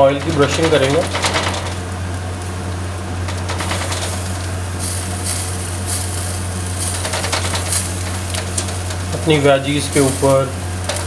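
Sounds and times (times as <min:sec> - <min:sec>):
chicken sizzling on grill: 0:00.0 - 0:11.0
steady low hum: 0:00.0 - 0:11.0.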